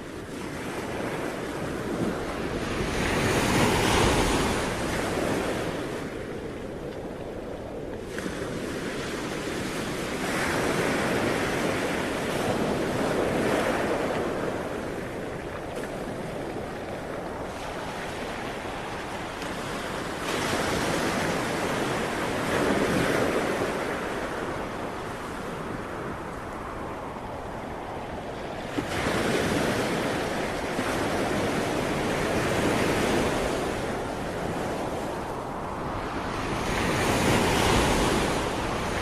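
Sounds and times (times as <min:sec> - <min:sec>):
sea waves breaking on shore: 0:00.0 - 0:39.0.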